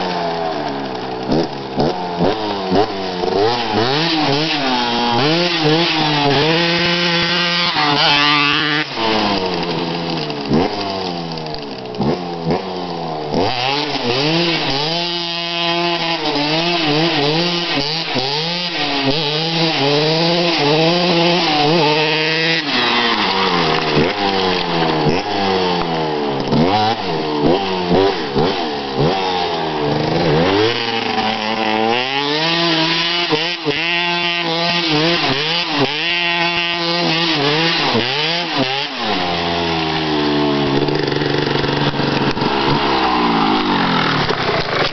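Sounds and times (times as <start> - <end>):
wheel spinning in loose dirt: 0.0 - 31.9, 34.5 - 44.9
dirt bike engine revving: 0.0 - 44.9.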